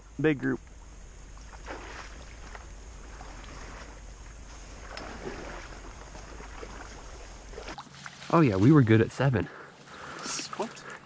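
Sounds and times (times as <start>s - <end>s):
faint steady rustling: 0.0s - 11.0s.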